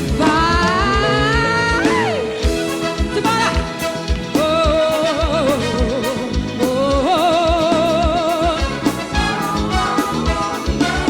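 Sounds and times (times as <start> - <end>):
bass: 0.0 - 11.0
drums: 0.0 - 11.0
held melody notes with vibrato: 0.0 - 11.0.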